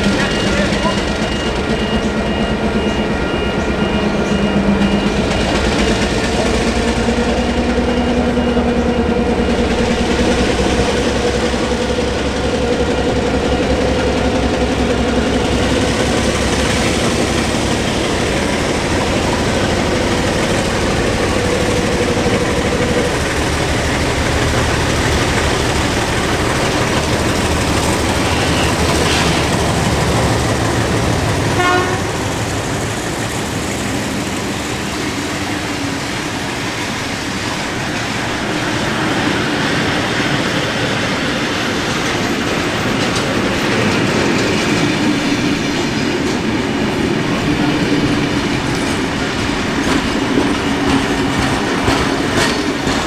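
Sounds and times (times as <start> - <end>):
carriages rolling rumble: 0.0 - 53.0
train passing: 0.0 - 53.0.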